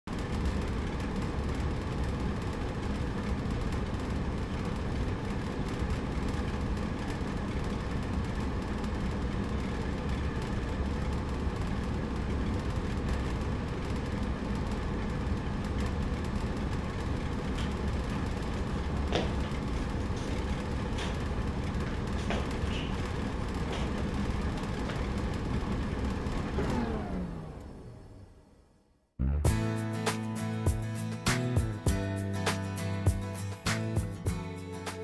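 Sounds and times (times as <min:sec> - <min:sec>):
low mechanical rumble: 0:00.1 - 0:33.3.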